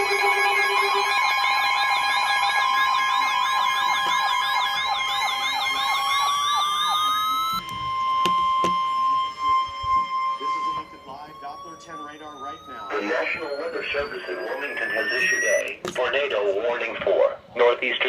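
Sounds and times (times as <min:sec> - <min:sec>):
siren-like warble: 0:00.0 - 0:15.8
steady electronic tone: 0:00.0 - 0:15.8.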